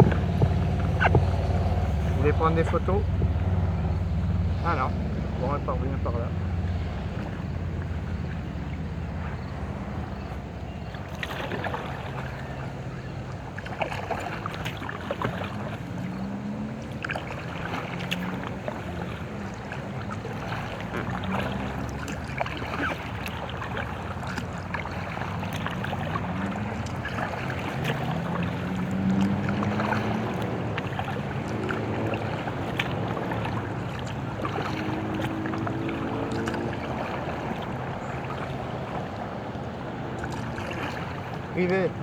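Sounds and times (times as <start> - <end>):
paddle water splashing and dripping: 0.0 - 42.0.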